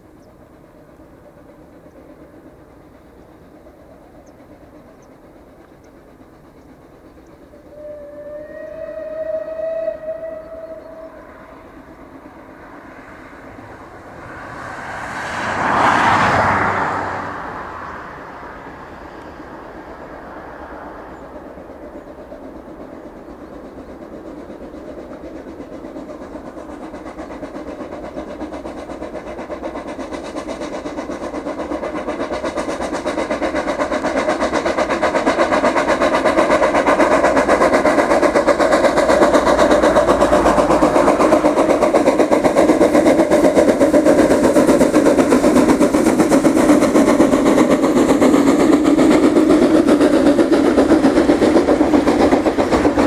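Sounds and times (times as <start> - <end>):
steam locomotive running: 0.0 - 53.0
train coaches rolling on rails: 0.0 - 53.0.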